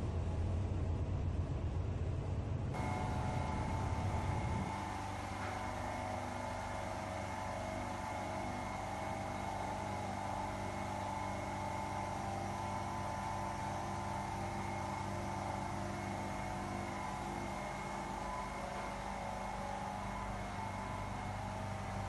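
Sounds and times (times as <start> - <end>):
ice machine humming: 2.8 - 22.0.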